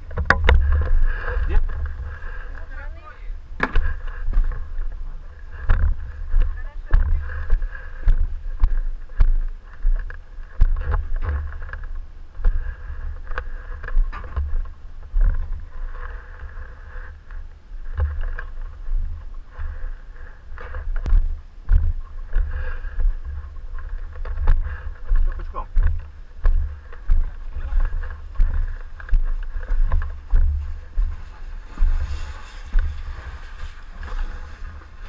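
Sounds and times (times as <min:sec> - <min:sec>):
camera thumps and rustling: 0:00.0 - 0:02.6, 0:03.5 - 0:35.0.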